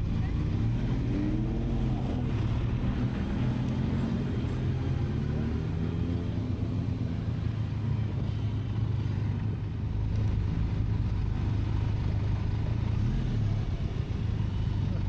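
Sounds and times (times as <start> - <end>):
motorcycle engine humming: 0.0 - 15.0
wind and road noise: 0.0 - 15.0.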